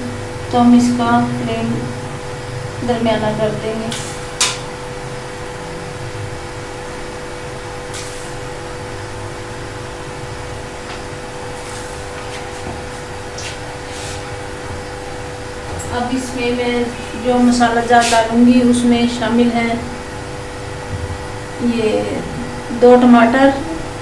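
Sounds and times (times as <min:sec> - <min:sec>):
constant hum: 0:00.0 - 0:24.0.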